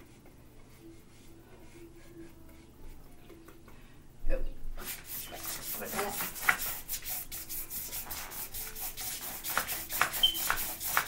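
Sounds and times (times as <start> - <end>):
paintbrush scrubbing paper: 0.0 - 3.0, 4.8 - 11.0.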